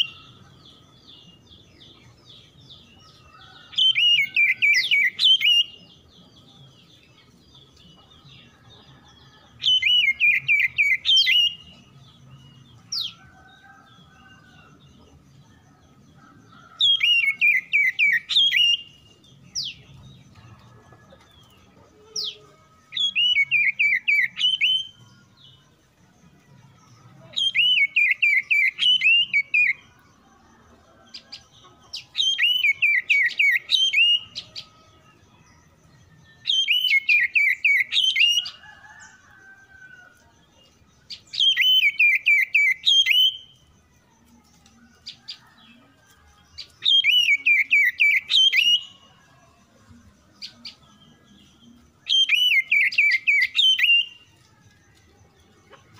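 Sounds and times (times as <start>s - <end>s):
bird song phrase: 0.0s - 55.9s.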